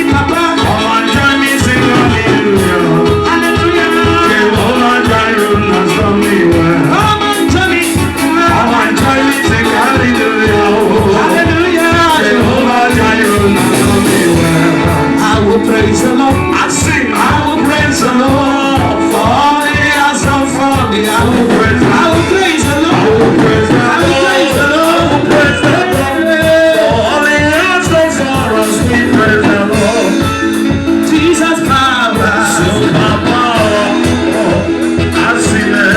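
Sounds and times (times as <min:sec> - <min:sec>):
fast drum beat: 0:00.0 - 0:35.9
gospel singing: 0:00.0 - 0:35.9
instrumental backing: 0:00.0 - 0:35.9.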